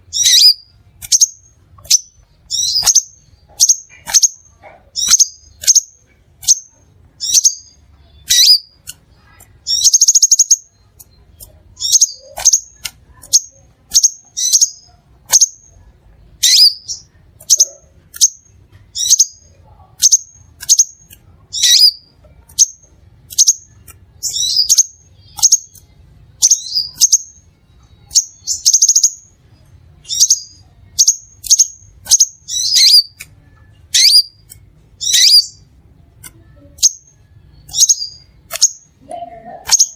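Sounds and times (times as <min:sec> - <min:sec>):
bird chirping: 0:00.0 - 0:39.9
buzzy bird notes: 0:00.0 - 0:39.9.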